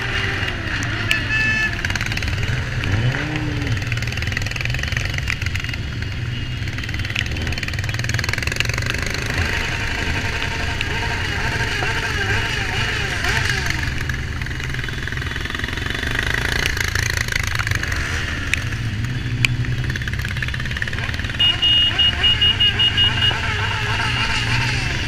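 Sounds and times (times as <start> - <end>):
motorcycle engines idling: 0.0 - 25.0.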